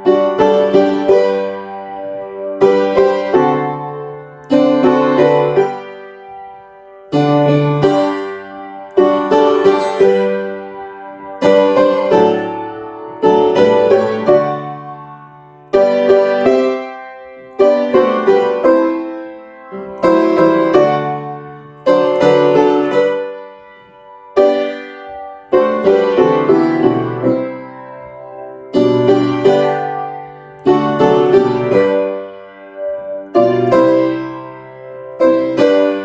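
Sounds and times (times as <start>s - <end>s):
piano playing hymn chords: 0.0s - 36.0s.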